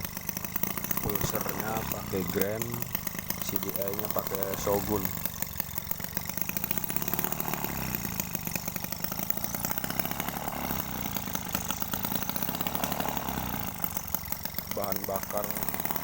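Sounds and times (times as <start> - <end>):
small two-stroke engine running: 0.0 - 16.0.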